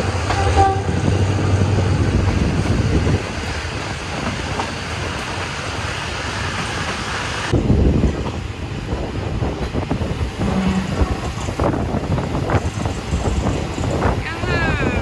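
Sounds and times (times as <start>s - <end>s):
low train rumble: 0.0s - 15.0s
train rushing noise: 0.0s - 15.0s.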